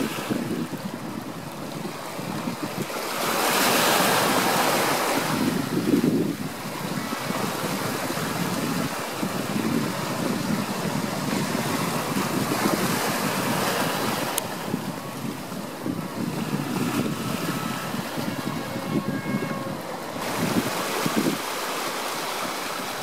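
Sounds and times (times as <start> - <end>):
ocean waves washing: 0.0 - 23.0
wind on microphone: 0.0 - 23.0.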